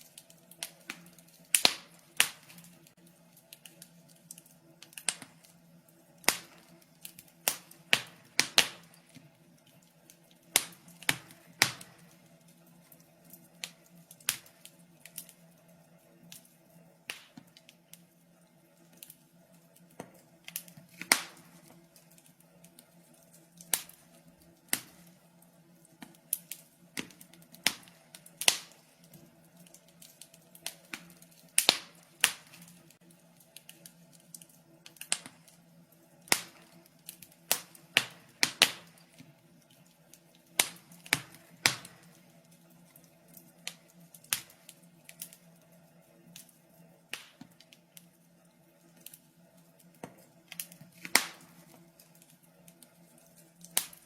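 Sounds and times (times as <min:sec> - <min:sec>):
fireplace fire crackling and popping: 0:00.0 - 0:54.0.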